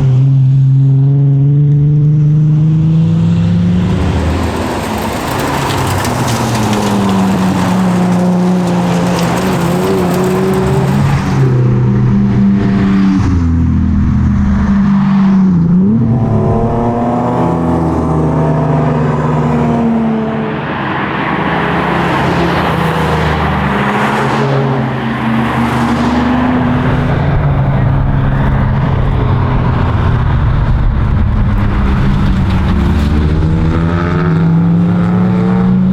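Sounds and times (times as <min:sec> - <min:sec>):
car engine revving through gears: 0:00.8 - 0:35.9.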